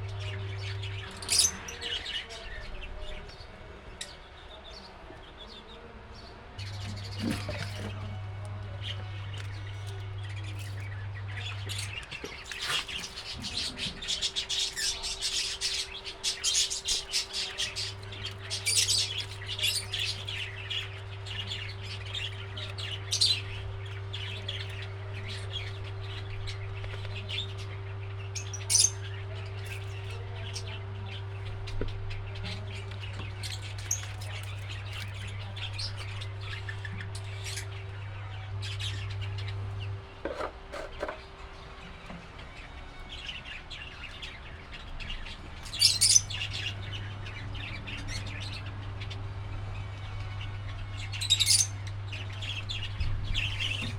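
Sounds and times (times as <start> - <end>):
steady low hum: 0.0 - 53.9
parrots chirping and squawking: 0.3 - 3.4, 9.3 - 53.9.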